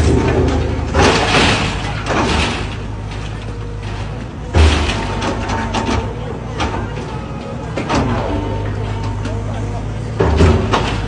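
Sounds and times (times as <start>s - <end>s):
excavator running: 0.0s - 11.0s
masonry cracking and clattering: 0.0s - 11.0s.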